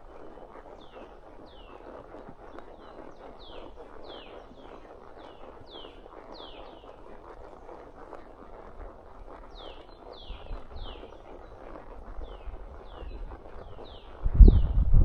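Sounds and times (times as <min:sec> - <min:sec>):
horse hoof steps and tack: 0:00.0 - 0:14.3.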